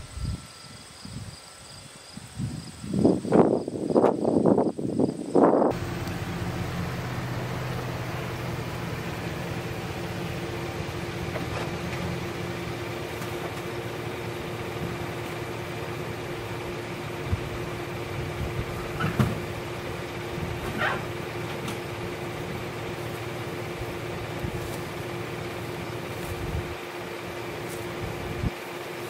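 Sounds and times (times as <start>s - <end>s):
machine humming: 5.7s - 29.0s.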